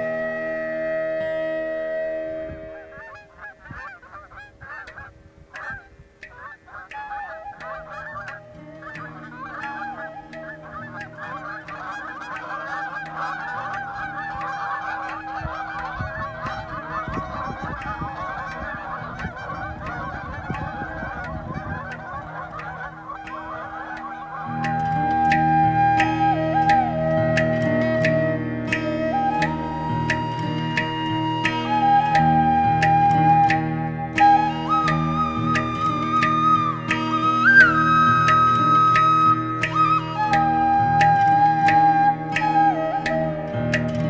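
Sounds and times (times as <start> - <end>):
geese honking: 0.0 - 43.8.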